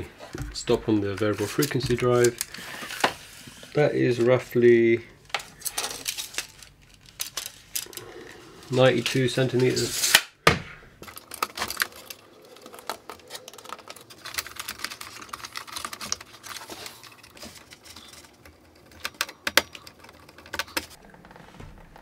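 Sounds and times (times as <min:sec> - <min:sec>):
hands handling electrical wires: 0:00.0 - 0:03.2, 0:05.2 - 0:10.3, 0:11.0 - 0:21.0.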